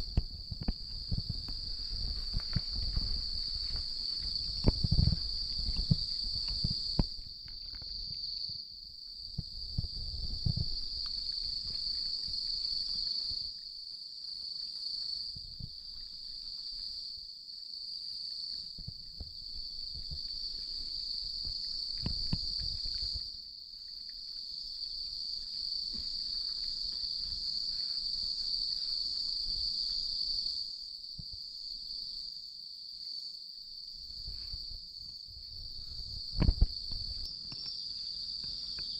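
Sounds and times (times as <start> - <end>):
rustles: 0.0 - 8.6, 9.4 - 32.1, 34.0 - 38.9
insects chirping: 0.0 - 38.9.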